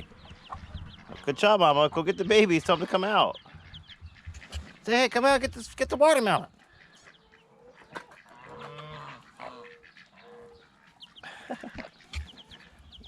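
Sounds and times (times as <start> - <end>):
chicks peeping: 0.0 - 13.0
drawn-out poultry call: 0.0 - 13.0.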